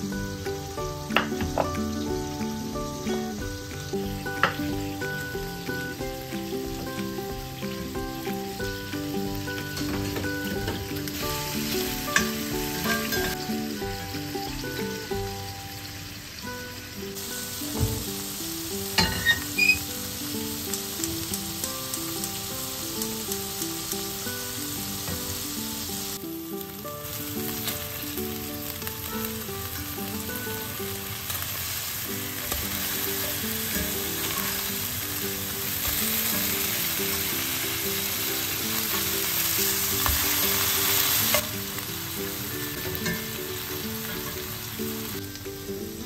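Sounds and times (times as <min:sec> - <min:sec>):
meat patties sizzling in oil: 0:00.0 - 0:46.0
soft background music: 0:00.0 - 0:46.0.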